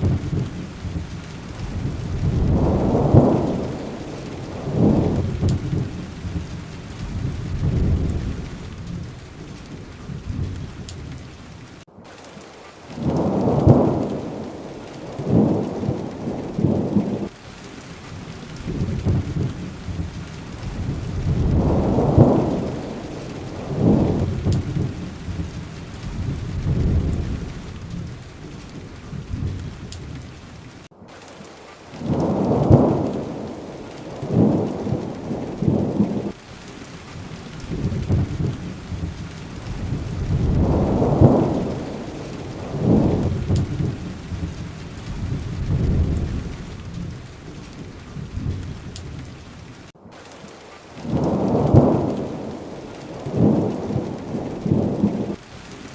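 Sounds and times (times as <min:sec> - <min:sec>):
low rolling thunder: 0:00.0 - 0:11.8, 0:12.4 - 0:30.9, 0:32.0 - 0:36.4, 0:37.2 - 0:49.9, 0:51.0 - 0:55.9
steady rain: 0:00.0 - 0:55.9.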